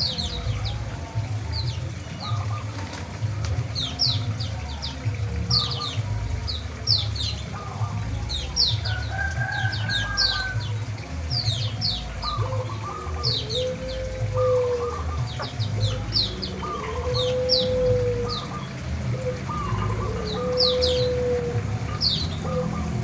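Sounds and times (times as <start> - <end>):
chickens clucking: 0.0 - 23.0
songbirds chirping: 0.0 - 23.0.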